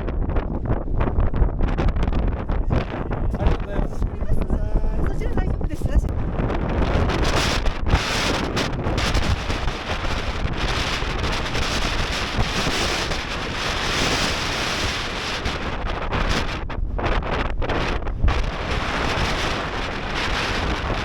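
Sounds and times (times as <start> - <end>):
gale wind roaring: 0.0 - 21.0.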